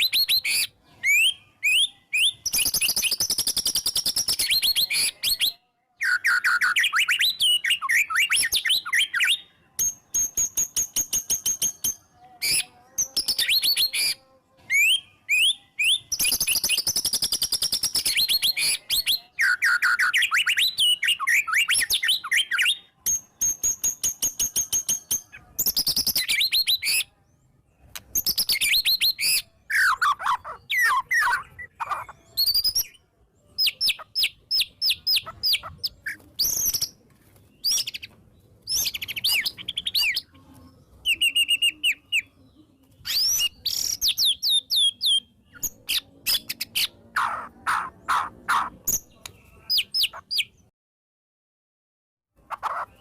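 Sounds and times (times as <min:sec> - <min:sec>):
songbird singing whistles: 0:00.0 - 0:27.1, 0:27.9 - 0:33.0, 0:33.6 - 0:37.0, 0:37.6 - 0:38.1, 0:38.7 - 0:40.3, 0:41.0 - 0:42.3, 0:43.0 - 0:46.9.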